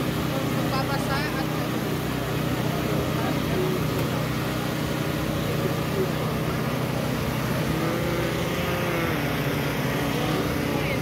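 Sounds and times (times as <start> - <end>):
crowd chatter: 0.0 - 11.0.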